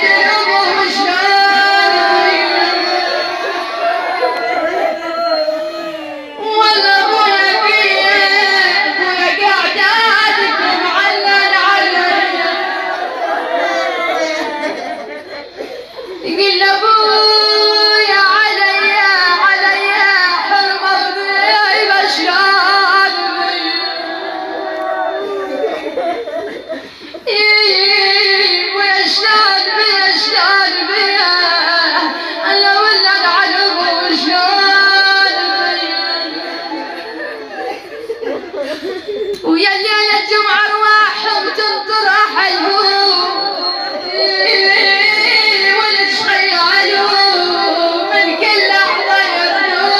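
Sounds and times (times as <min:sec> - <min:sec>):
woman chanting a lament: 0:00.0 - 0:49.9.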